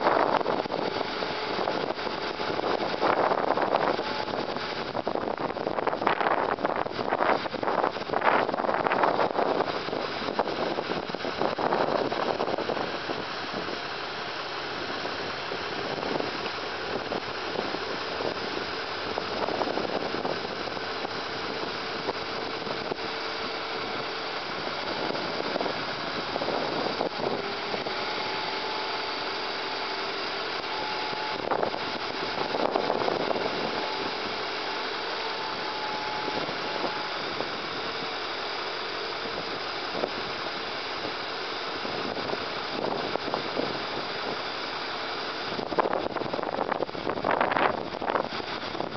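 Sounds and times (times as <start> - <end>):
faint steady whine: 0.0 - 48.9
truck engine idling: 0.0 - 48.9
wind buffeting microphone: 0.0 - 48.9.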